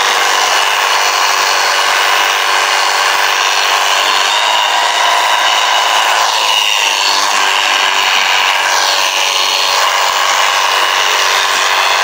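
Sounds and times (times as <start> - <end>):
pressure washer motor humming: 0.0 - 12.0.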